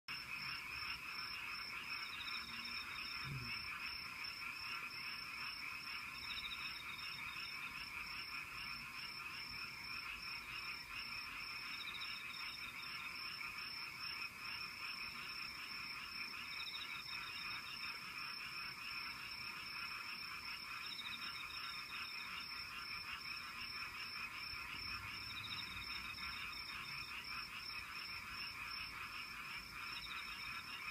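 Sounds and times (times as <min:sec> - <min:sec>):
frog chorus trilling: 0:00.1 - 0:30.9.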